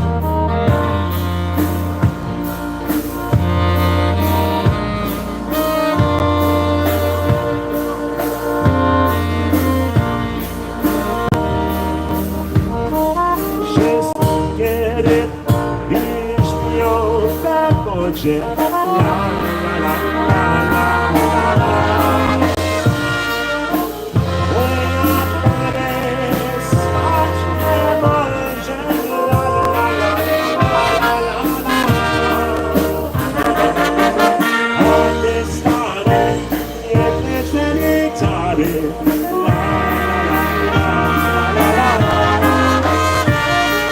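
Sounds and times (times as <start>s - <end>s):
brass horns melody: 0.0s - 43.9s
cymbal marking the beat: 0.0s - 43.9s
polka band playing a waltz: 0.0s - 43.9s
steady bass: 0.0s - 43.9s.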